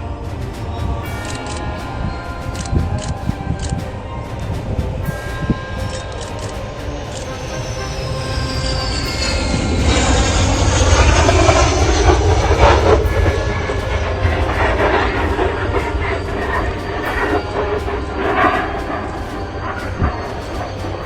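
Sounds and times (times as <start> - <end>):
fuselage scraping along runway: 0.0 - 21.0
jet engine whine: 0.0 - 21.0.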